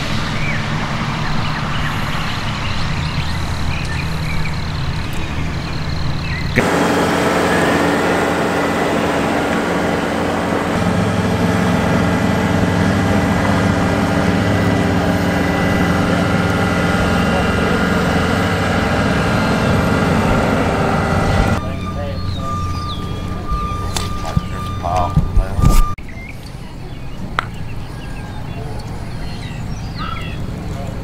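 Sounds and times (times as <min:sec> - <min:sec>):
diesel engine running: 0:00.0 - 0:26.0
heavy equipment engine running: 0:00.0 - 0:26.0.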